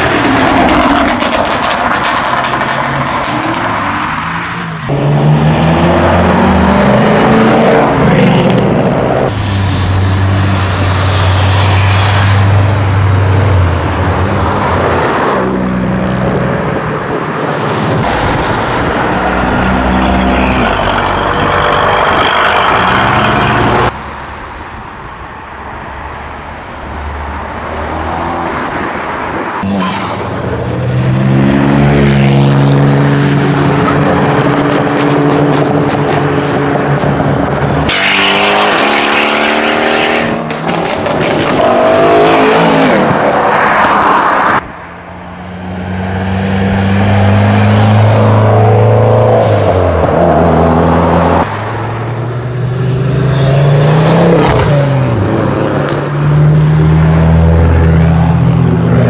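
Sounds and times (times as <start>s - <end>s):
performance cars accelerating hard: 0.0s - 24.0s, 27.8s - 44.7s, 45.3s - 59.0s.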